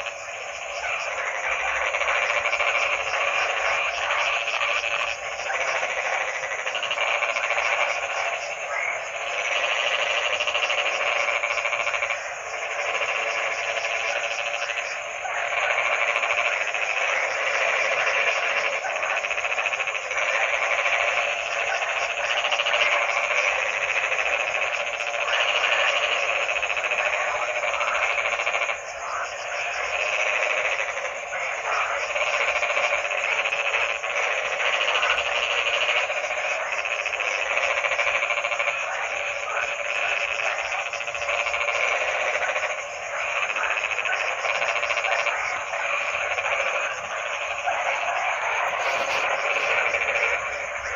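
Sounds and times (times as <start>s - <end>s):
frogs croaking in chorus: 0.0s - 50.9s.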